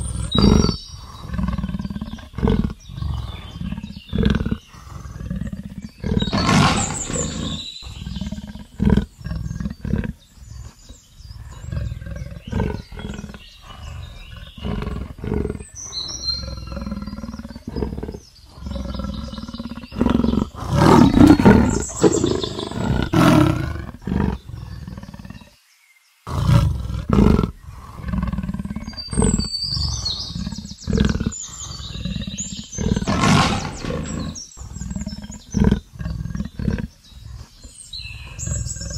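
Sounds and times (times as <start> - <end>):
leopard roaring and growling: 0.0 - 25.5, 26.3 - 38.9.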